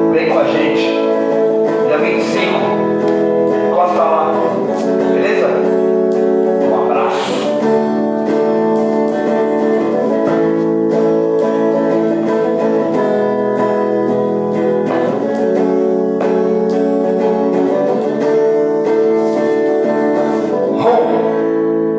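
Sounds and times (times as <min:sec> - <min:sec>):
guitar strumming chords: 0:00.0 - 0:21.9.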